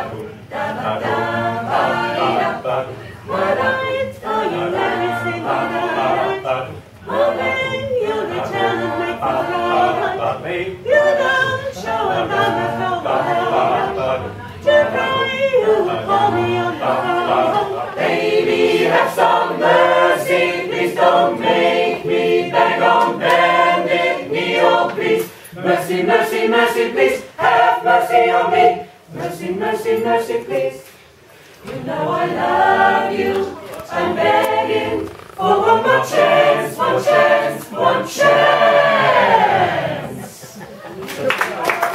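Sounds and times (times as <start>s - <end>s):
mixed choir singing a cappella: 0.0s - 41.9s.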